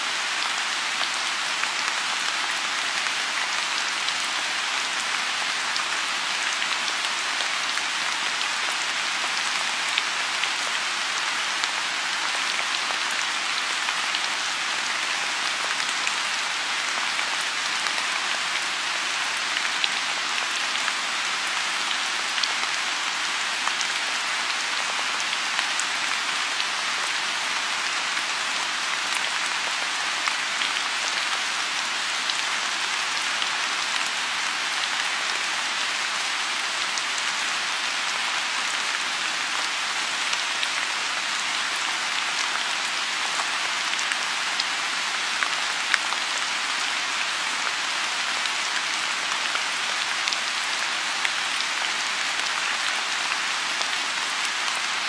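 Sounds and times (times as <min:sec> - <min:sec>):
rain falling on a pond: 0:00.0 - 0:55.0.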